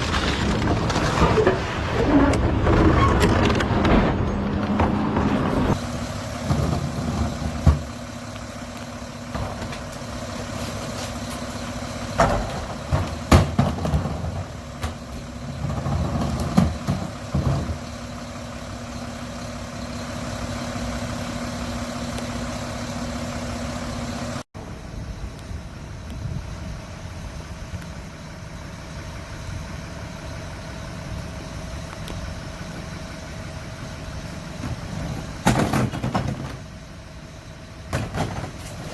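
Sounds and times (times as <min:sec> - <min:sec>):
garbage truck engine idling: 0:00.0 - 0:38.9
steady engine hum: 0:03.4 - 0:38.9.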